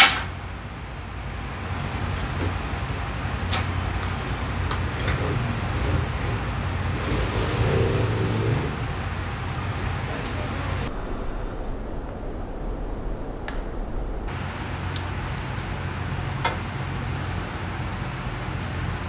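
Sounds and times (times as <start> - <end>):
low workshop hum: 0.0 - 11.0, 14.2 - 19.0.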